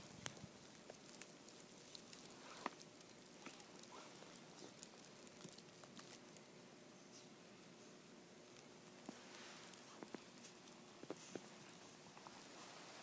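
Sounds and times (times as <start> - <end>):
faint ticks and crunches: 0.0 - 6.5, 8.4 - 12.4.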